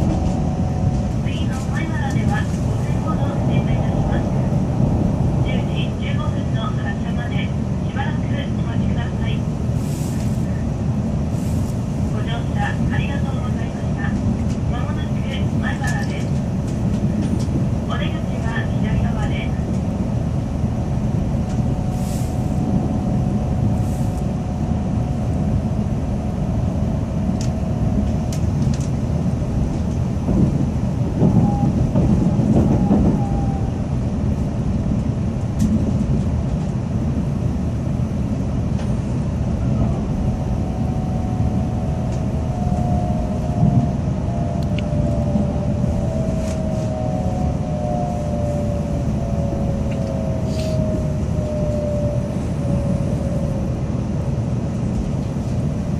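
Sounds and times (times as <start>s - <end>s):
train cabin rumble: 0.0s - 55.9s.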